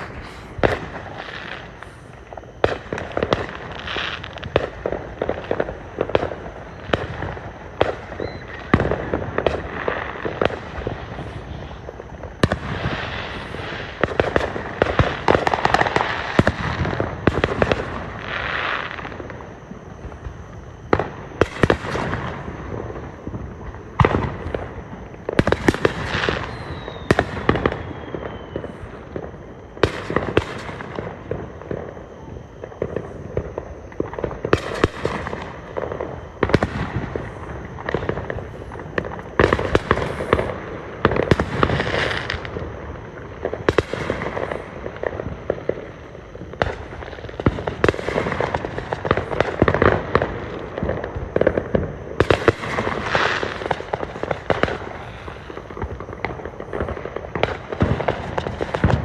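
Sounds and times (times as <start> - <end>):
fireworks bangs: 0.0 - 59.0
fireworks crackling and popping: 0.0 - 59.0.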